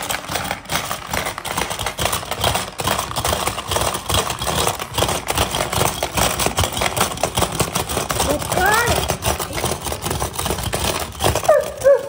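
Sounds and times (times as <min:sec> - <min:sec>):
rapid plastic clatter: 0:00.0 - 0:12.0.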